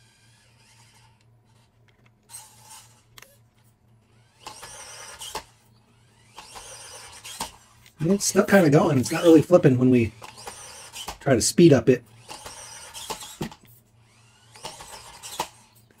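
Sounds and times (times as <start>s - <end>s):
small electric motor whining: 0.0s - 11.3s, 12.0s - 16.0s.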